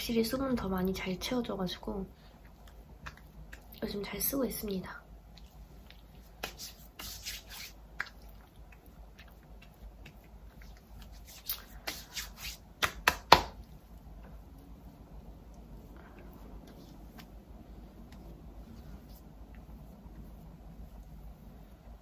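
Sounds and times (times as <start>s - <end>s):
hands rubbing and patting skin: 2.3s - 22.0s.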